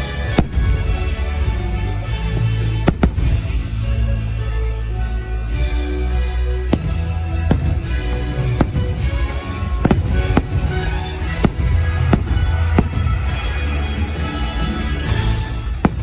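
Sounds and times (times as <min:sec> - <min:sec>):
fireworks bursting: 0:00.0 - 0:04.4, 0:06.8 - 0:16.0
loud music: 0:00.0 - 0:16.0.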